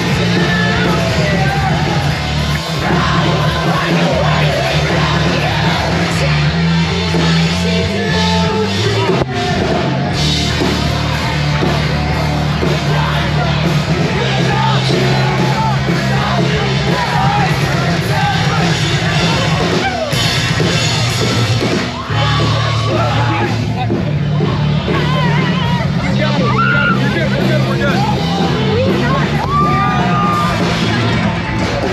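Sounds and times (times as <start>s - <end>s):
person singing and yelling: 0.0s - 20.3s, 21.9s - 31.2s
loud live rock band: 0.0s - 31.9s.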